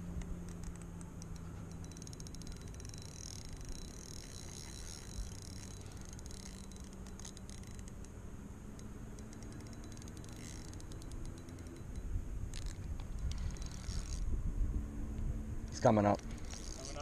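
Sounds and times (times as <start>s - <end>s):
low steady hum: 0.0s - 17.0s
fishing reel clicking: 0.2s - 14.3s, 15.7s - 17.0s.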